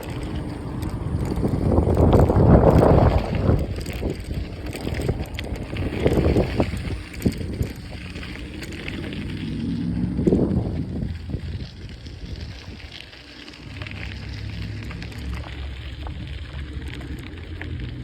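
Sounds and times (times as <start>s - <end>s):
bike rolling and rattling: 0.0s - 18.0s
wind buffeting microphone: 0.0s - 18.0s.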